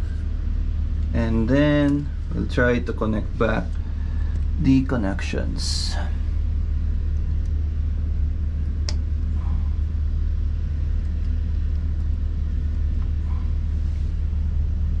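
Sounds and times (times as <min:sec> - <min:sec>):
low machinery drone: 0:00.0 - 0:15.0.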